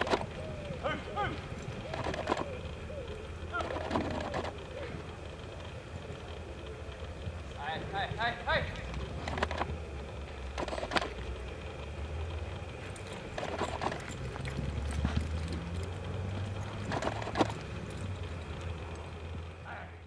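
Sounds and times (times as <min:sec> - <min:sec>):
horse hooves thudding in dirt: 0:00.0 - 0:19.6.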